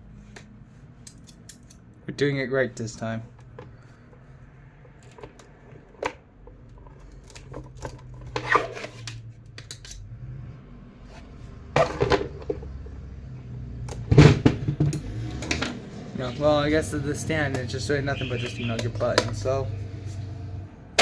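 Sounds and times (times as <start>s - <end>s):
fan parts clicking and scraping: 0.1s - 10.1s, 11.1s - 20.3s.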